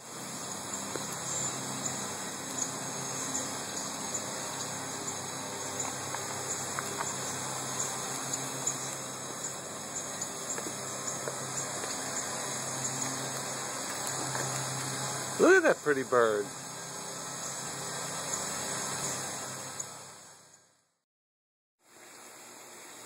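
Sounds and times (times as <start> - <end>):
pool pump hum and water rush: 0.0 - 20.5, 21.8 - 23.0.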